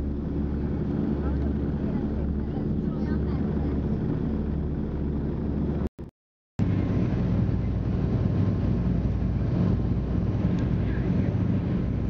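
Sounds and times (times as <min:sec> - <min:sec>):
propeller aircraft engines droning: 0:00.0 - 0:05.9, 0:06.6 - 0:12.0.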